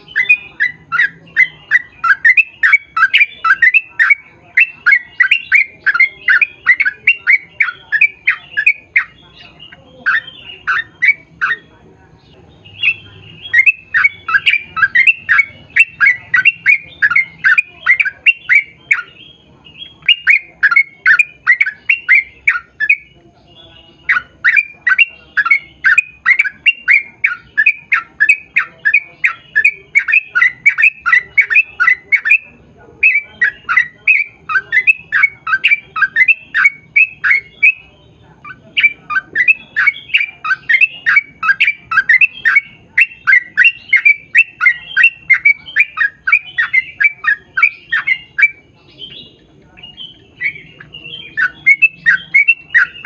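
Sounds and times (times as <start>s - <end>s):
bulbul singing bubbly chattering: 0.0s - 53.0s.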